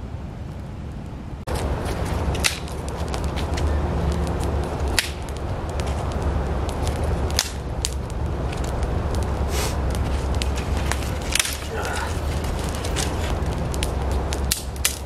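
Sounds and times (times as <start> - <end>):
low rumble: 0.0 - 15.0
dry sticks snapping: 1.5 - 15.0.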